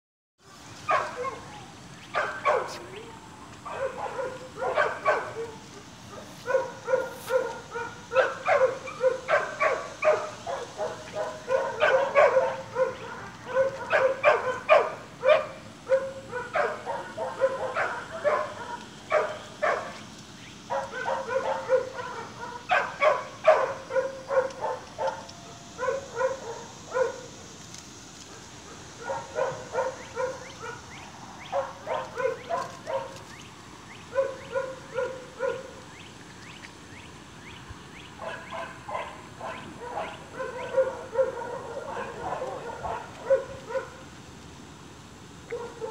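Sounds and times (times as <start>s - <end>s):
puppies yipping and barking: 0.7s - 27.4s, 28.2s - 35.9s, 38.0s - 44.0s.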